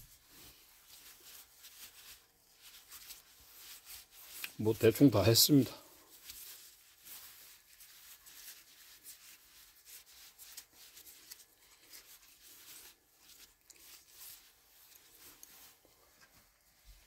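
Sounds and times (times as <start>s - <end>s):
cloth rag rubbing metal: 0.0s - 17.0s.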